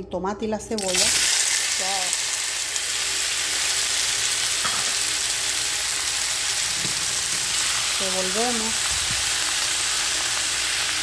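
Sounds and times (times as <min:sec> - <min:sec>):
vegetables sizzling in oil: 0:00.8 - 0:11.0.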